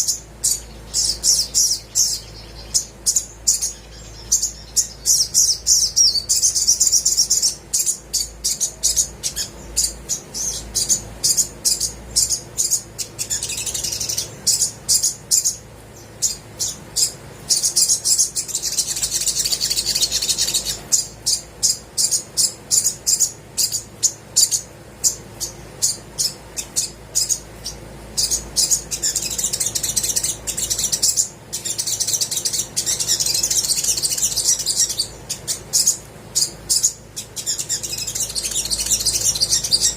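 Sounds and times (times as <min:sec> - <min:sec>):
sunbird singing high chips: 0:00.0 - 0:39.9.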